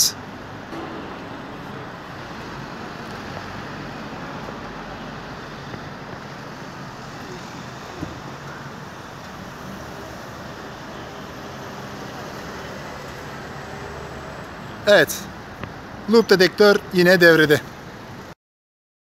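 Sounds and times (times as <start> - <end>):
distant road traffic: 0.0 - 18.3.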